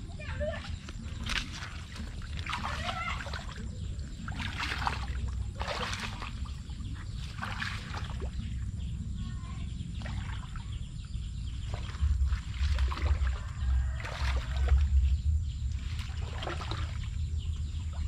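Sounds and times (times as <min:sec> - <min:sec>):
low rumble: 0:00.0 - 0:18.0
water splashing and sloshing: 0:00.0 - 0:18.0.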